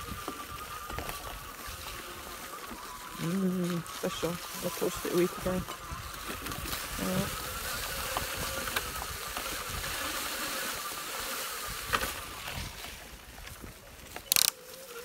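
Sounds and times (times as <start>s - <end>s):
faint motor whine: 0.0s - 15.0s.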